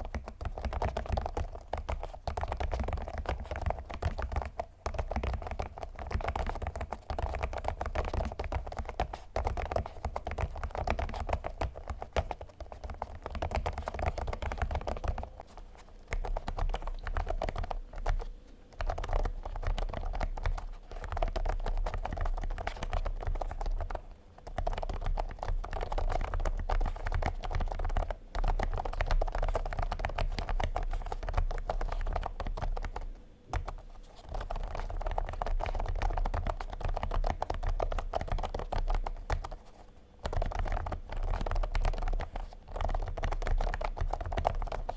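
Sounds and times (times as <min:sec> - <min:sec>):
muffled mechanical keyboard typing: 0:00.0 - 0:44.9.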